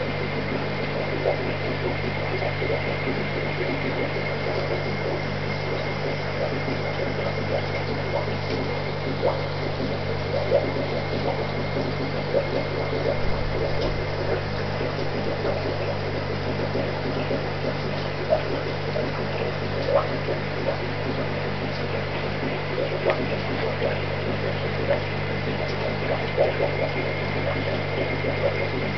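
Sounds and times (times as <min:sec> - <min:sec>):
aquarium pump hum: 0:00.0 - 0:28.9
bubbling water: 0:00.0 - 0:28.9.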